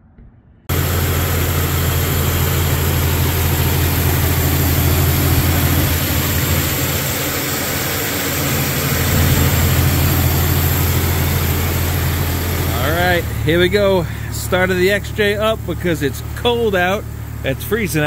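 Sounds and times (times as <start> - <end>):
car engine idling: 0.7 - 18.0.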